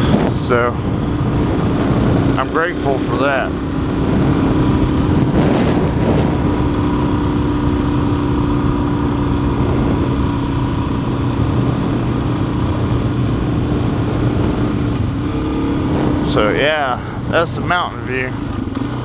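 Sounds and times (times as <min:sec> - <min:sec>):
wind noise on microphone: 0:00.0 - 0:02.5, 0:03.4 - 0:17.6
motorcycle engine cruising: 0:00.0 - 0:19.0.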